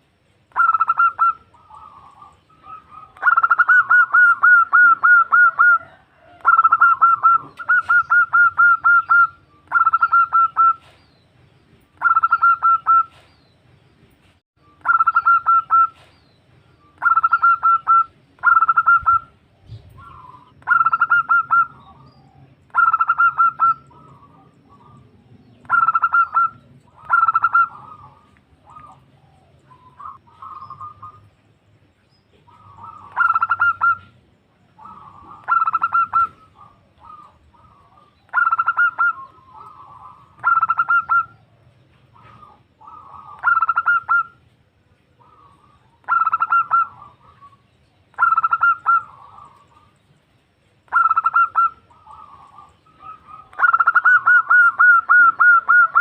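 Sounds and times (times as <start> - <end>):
dove cooing: 0.5 - 11.0, 12.0 - 13.3, 14.8 - 16.2, 16.9 - 31.3, 32.3 - 50.0, 50.9 - 56.0.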